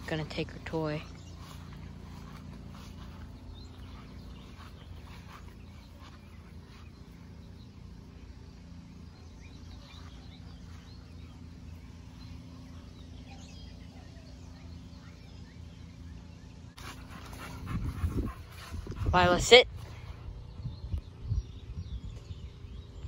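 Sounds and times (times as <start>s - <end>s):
birds chirping: 0.0s - 23.0s
steady low rumble: 0.0s - 23.0s.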